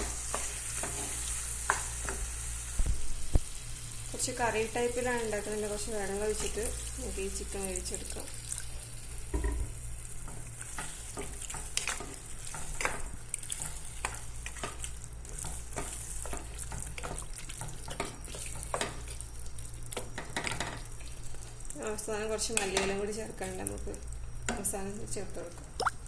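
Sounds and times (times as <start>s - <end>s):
food sizzling: 0.0s - 26.0s.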